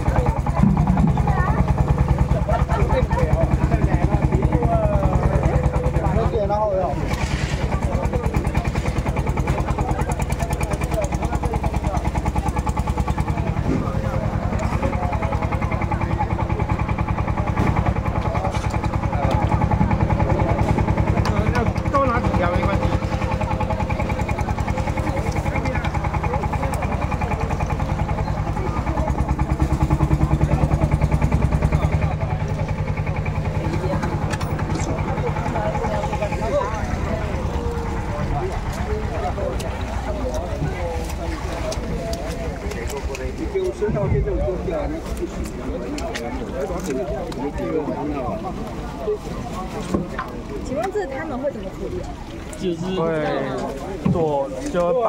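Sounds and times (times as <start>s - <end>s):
engine idling: 0.0s - 55.0s
faint voices talking: 0.0s - 55.0s.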